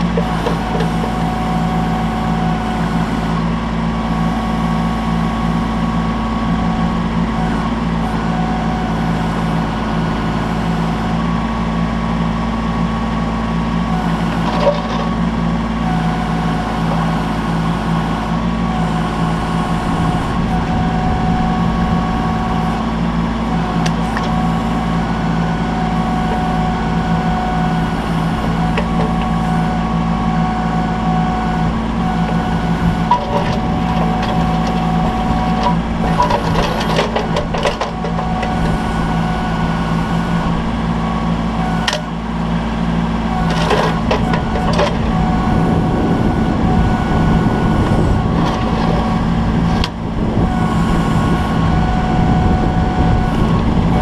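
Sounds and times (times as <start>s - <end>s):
hydraulic whine: 0.0s - 54.0s
tractor diesel engine running: 0.0s - 54.0s.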